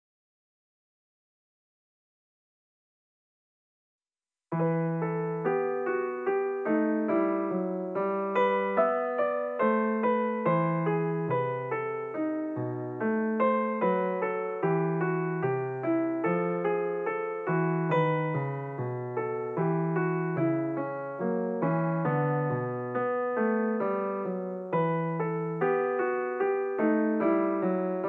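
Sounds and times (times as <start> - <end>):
keyboard notes: 4.6 - 28.0.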